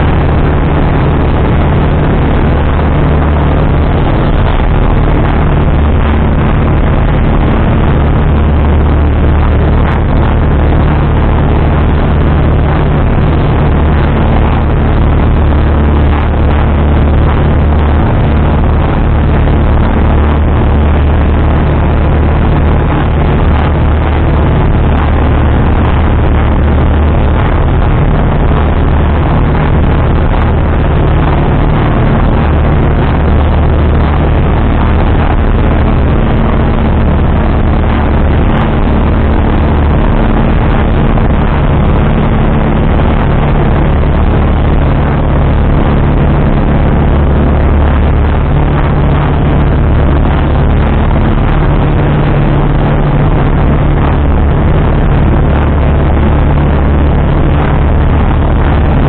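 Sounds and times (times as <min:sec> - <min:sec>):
constant rushing noise: 0:00.0 - 0:59.0
light aircraft engine droning: 0:00.0 - 0:59.0.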